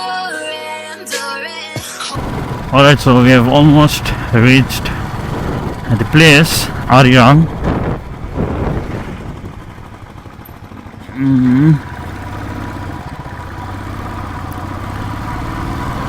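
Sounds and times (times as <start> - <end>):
motorcycle engine: 2.1 - 16.0
road noise: 2.1 - 16.0.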